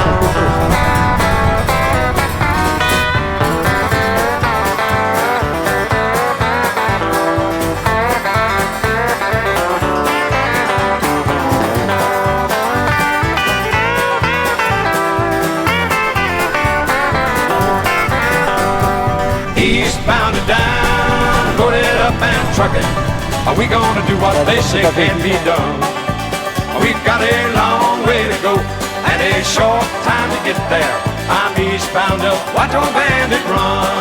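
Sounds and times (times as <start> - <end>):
lead guitar bending notes: 0.0 - 34.0
upbeat country music: 0.0 - 34.0.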